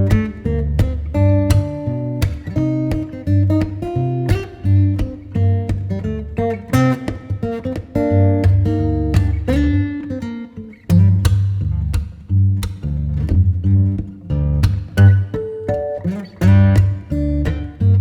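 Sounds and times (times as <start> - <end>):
bass line: 0.0 - 7.0, 8.0 - 10.0, 10.9 - 15.4, 16.4 - 18.0
acoustic guitar plucking: 0.0 - 18.0.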